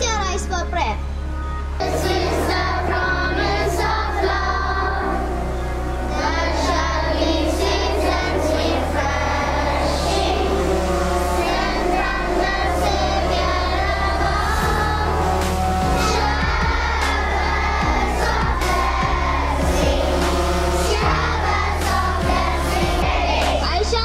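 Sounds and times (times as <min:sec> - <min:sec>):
instrumental music with bass: 0:01.0 - 0:24.0
children singing: 0:01.8 - 0:24.0.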